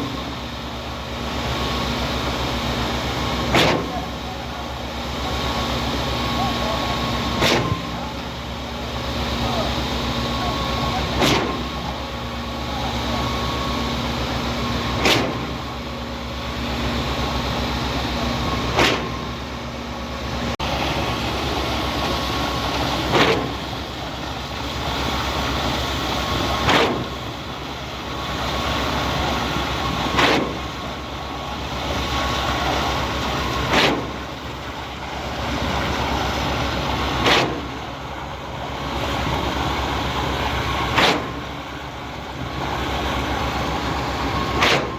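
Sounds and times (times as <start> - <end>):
concrete pump running: 0.0 - 44.9.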